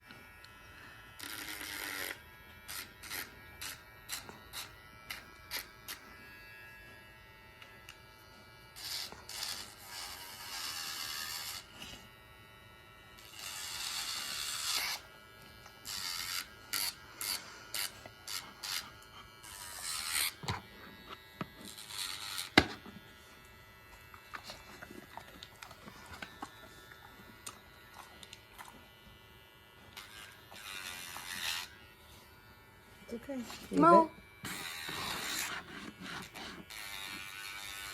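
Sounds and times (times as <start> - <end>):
grinder rasping on nails: 0.0 - 6.4, 8.8 - 12.1, 13.2 - 37.9
electric nail grinder running: 0.0 - 37.9.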